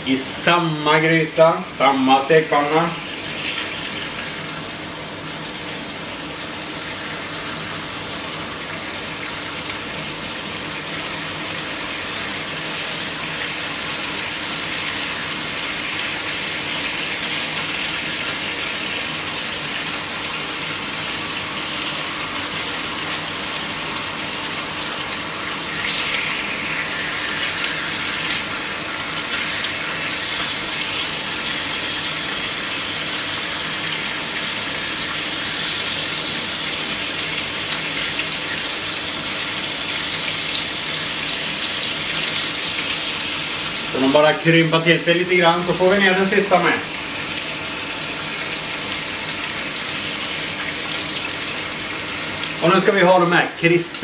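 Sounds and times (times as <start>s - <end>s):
bacon sizzling in frying pan: 0.0s - 54.0s.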